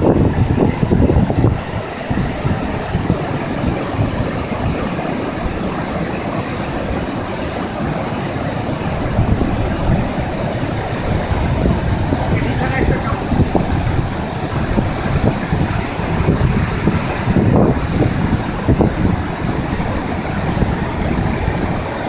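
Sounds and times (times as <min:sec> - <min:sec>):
river rushing over weir: 0:00.0 - 0:22.0.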